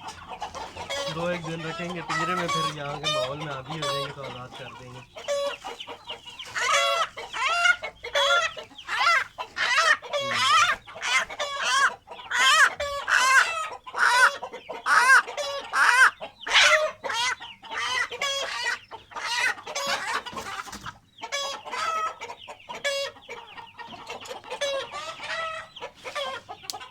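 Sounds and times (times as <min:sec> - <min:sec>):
chickens clucking and squawking: 0:00.0 - 0:26.9.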